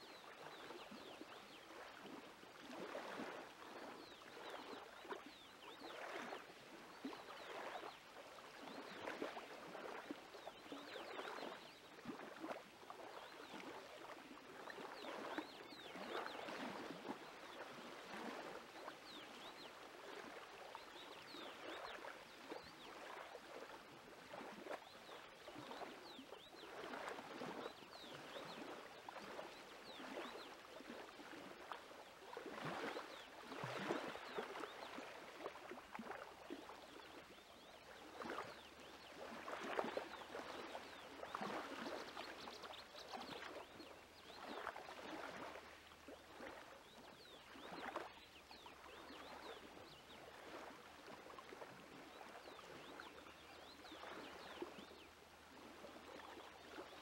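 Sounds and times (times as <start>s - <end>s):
water lapping: 0.1s - 57.0s.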